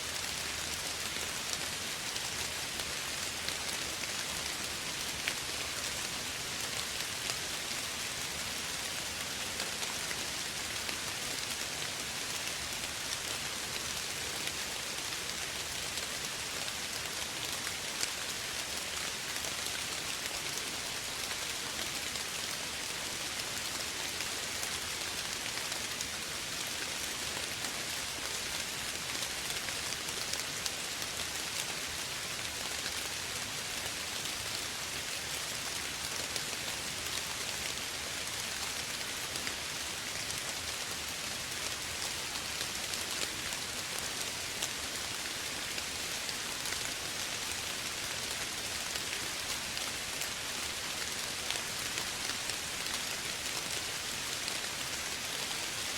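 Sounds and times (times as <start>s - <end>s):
gentle rain falling: 0.0s - 55.9s.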